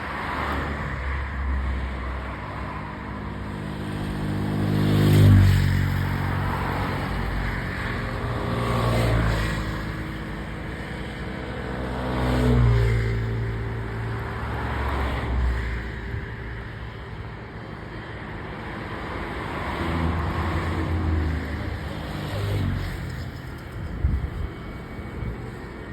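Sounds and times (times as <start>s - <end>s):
vehicles passing by: 0.0s - 25.9s.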